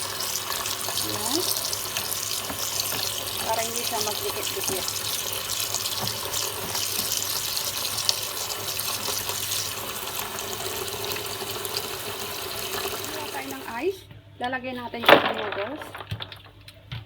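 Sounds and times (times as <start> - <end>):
kitchen tap running: 0.0 - 13.9.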